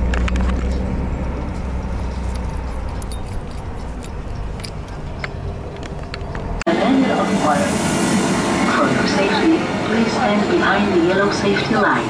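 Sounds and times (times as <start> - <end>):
bus rumbling inside cabin: 0.0 - 12.0.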